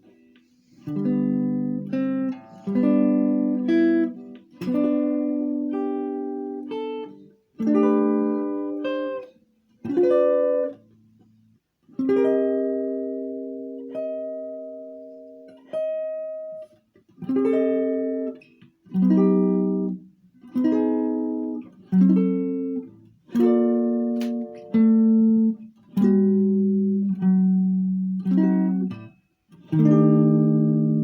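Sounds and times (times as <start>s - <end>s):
guitar chords: 0.0s - 11.1s, 11.9s - 31.0s.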